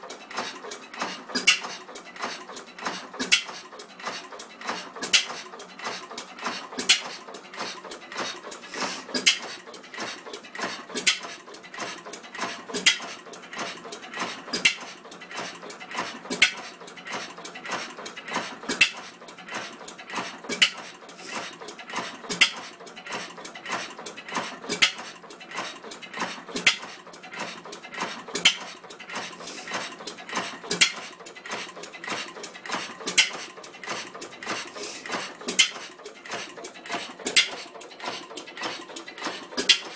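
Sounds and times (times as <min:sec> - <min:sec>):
gas engine clattering: 0:00.0 - 0:39.9.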